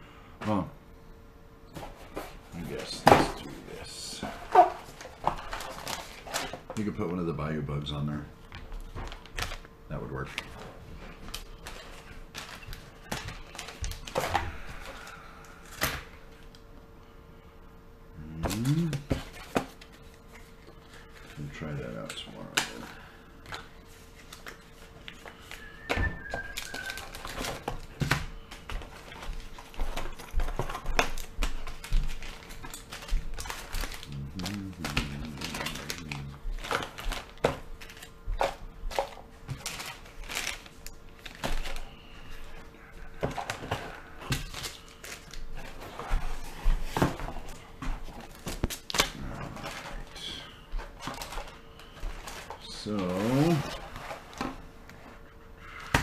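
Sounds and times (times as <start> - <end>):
plastic packaging crinkling: 2.6 - 7.0, 8.6 - 16.7, 18.5 - 55.2.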